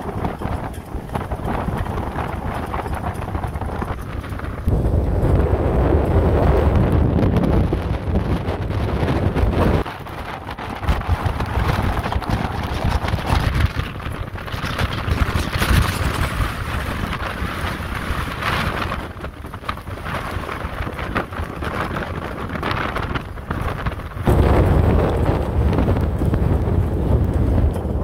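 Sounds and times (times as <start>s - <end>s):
strong wind buffeting microphone: 0.0s - 28.0s.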